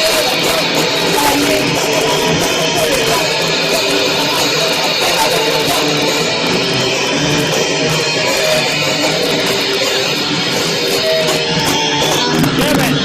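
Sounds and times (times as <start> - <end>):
live band with electric guitar: 0.0 - 13.0.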